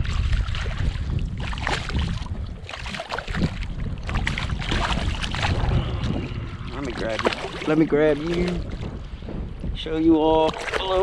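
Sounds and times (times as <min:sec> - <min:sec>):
water splashing and sloshing: 0:00.0 - 0:11.0
wind rumble on microphone: 0:00.0 - 0:11.0.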